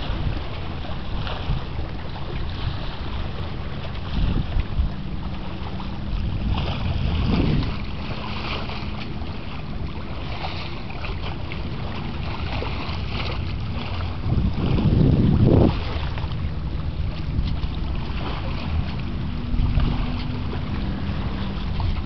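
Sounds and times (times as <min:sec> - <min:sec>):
choppy water splashing: 0:00.0 - 0:22.0
wind buffeting microphone: 0:00.0 - 0:22.0.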